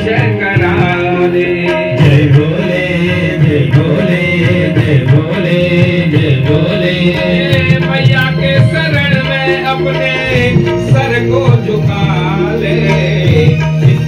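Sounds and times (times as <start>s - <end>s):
devotional singing: 0.0s - 14.0s
sustained melodic accompaniment: 0.0s - 14.0s
tabla drumming: 0.0s - 14.0s.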